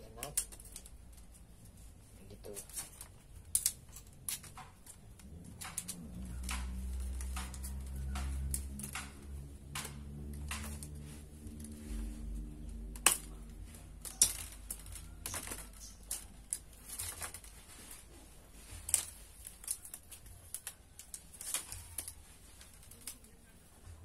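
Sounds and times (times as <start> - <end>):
bamboo strips clicking: 0.0 - 24.0
bamboo strips scraping: 0.0 - 24.0.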